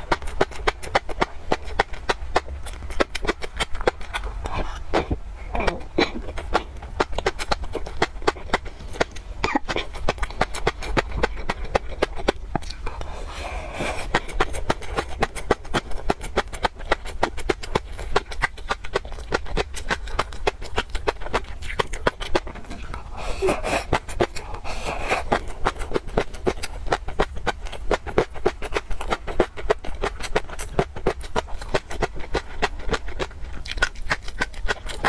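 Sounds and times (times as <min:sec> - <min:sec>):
chewing with small crackles: 0:00.0 - 0:35.0
wet mouth sounds: 0:00.0 - 0:35.0.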